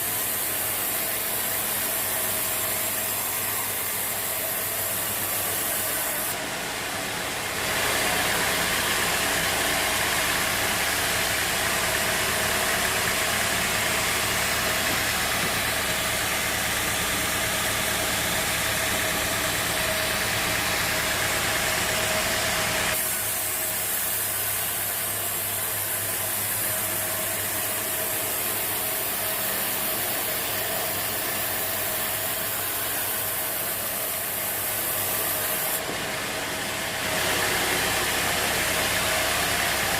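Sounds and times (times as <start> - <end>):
hissy sawing noise: 0.0 - 6.5, 7.5 - 39.9
bandsaw whining: 0.0 - 39.9.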